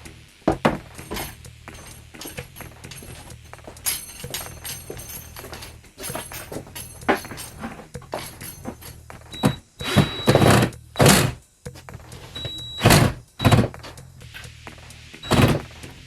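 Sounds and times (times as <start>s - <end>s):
knocks and thuds: 0.5s - 14.0s, 15.2s - 16.0s
rough scraping: 0.5s - 14.5s.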